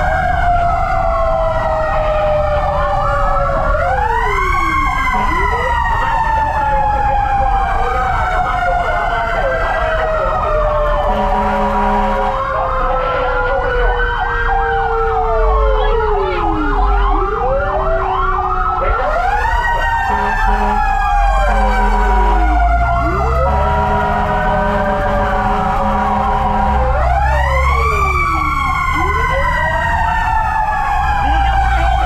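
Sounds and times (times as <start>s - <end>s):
fire engine sirens: 0.0s - 32.0s
truck engine rumble: 0.0s - 32.0s.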